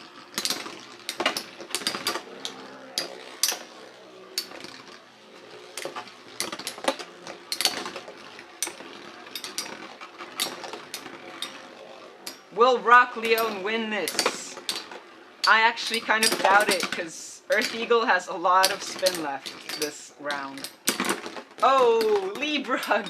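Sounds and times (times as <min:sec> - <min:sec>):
spinning tops whirring: 0:00.0 - 0:23.0.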